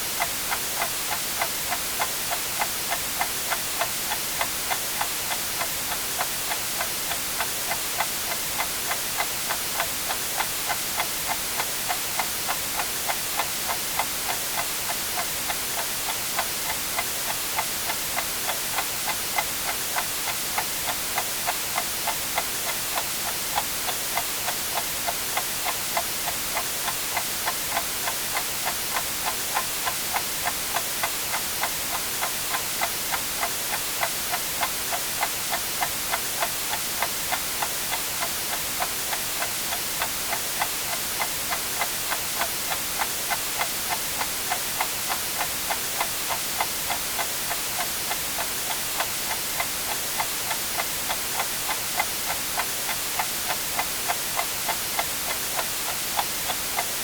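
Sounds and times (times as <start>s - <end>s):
white noise hiss: 0.0s - 57.0s
clock ticking: 0.2s - 57.0s.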